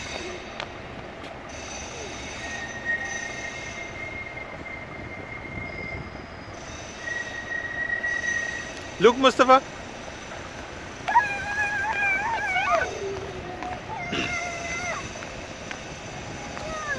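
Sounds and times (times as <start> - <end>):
city traffic hum: 0.0 - 16.9
tram wheels squealing: 0.0 - 16.9.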